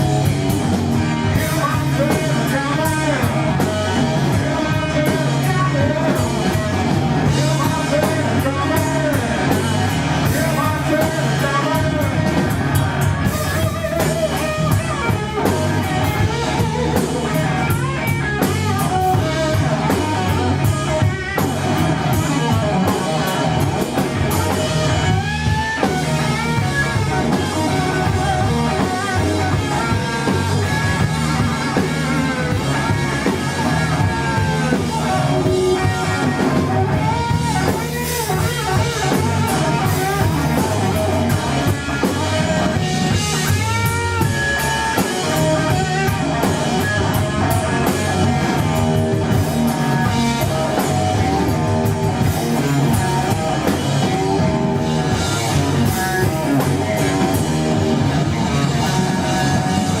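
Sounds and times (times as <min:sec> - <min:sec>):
bass guitar: 0:00.0 - 1:00.0
drum kit: 0:00.0 - 1:00.0
electric guitar lead: 0:00.0 - 1:00.0.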